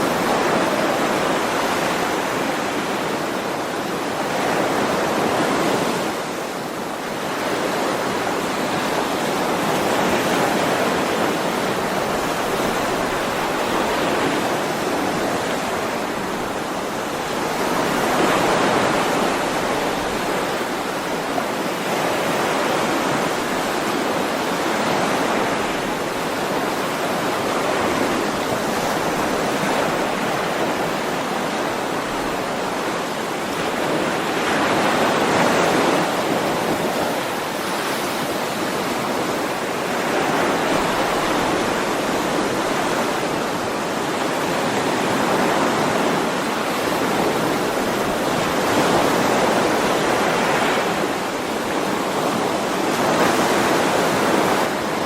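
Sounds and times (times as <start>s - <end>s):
sea waves washing on shore: 0.0s - 55.0s.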